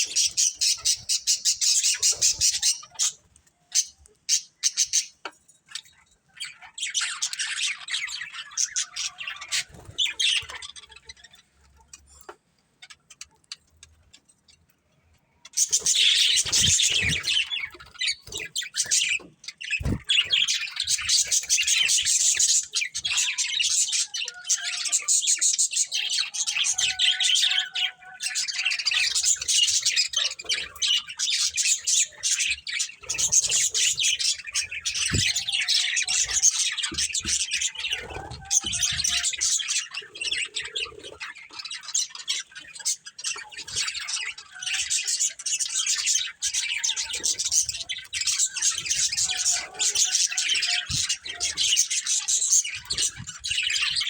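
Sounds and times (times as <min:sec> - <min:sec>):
budgerigars chirping: 0:00.0 - 0:14.2, 0:15.5 - 0:54.0.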